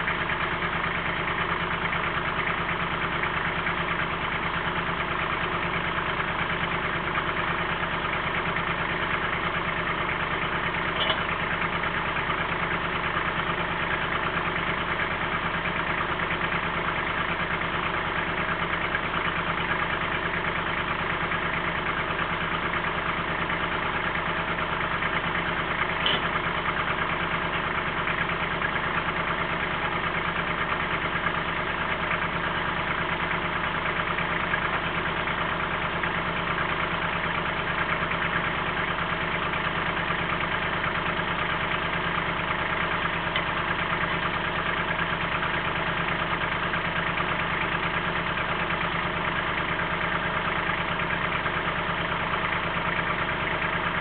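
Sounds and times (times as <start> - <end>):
tractor diesel engine idling: 0.0 - 54.0.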